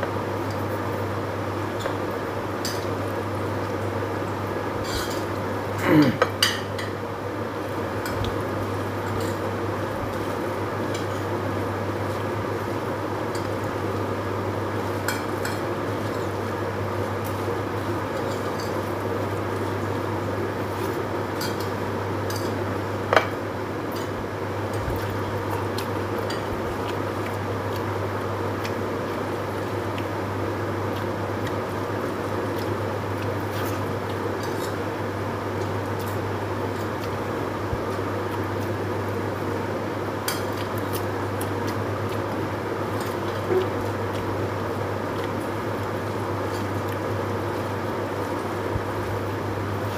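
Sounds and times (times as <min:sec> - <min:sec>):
eating rice by hand: 0:00.0 - 0:49.9.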